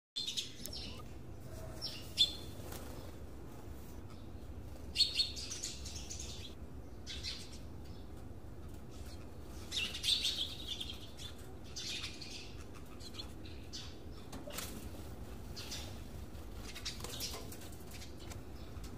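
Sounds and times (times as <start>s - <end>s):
small birds chirping: 0.2s - 18.9s.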